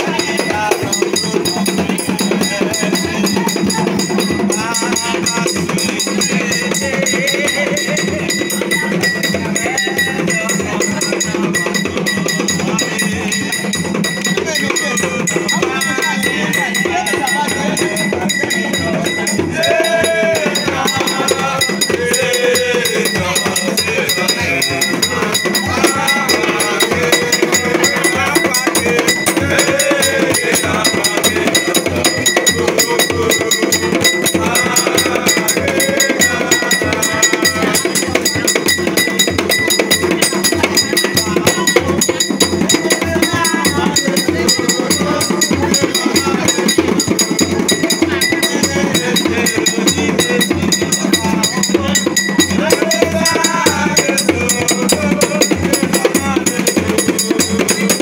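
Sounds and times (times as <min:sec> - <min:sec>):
hand percussion beat: 0:00.0 - 0:58.0
voices singing or calling: 0:00.0 - 0:58.0.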